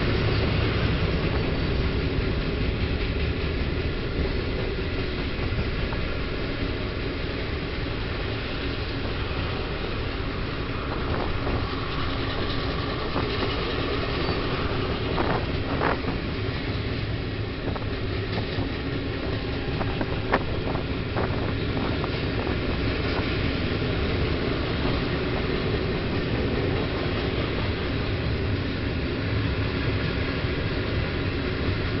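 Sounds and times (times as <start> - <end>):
train cars rolling past: 0.0 - 32.0
train wheel squeals: 0.0 - 32.0.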